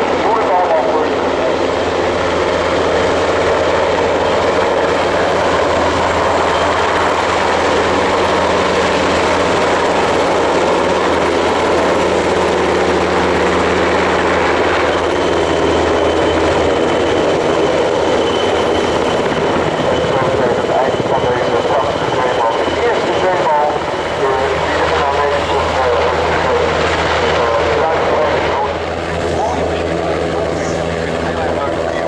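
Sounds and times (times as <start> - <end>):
helicopter hovering overhead: 0.0 - 32.0.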